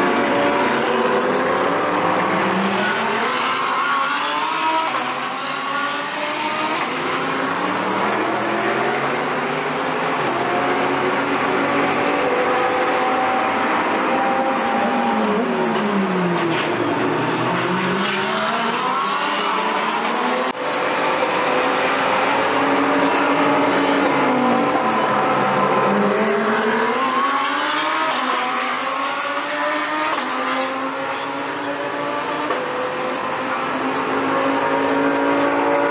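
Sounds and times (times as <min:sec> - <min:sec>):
race car engines accelerating: 0:00.0 - 0:35.9.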